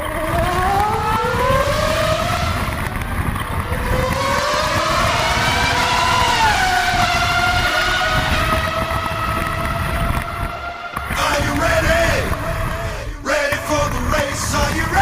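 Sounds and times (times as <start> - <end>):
rough low rumble: 0.0 - 14.1.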